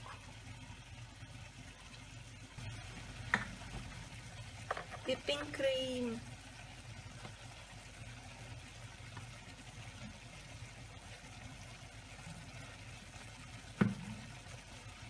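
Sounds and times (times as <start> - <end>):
stock bubbling in a pan: 0.0 - 15.0.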